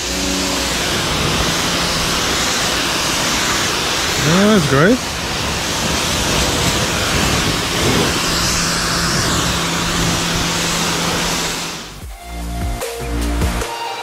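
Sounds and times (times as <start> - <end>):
low hum: 0.0 - 12.2
pressure washer spray hissing: 0.0 - 12.2.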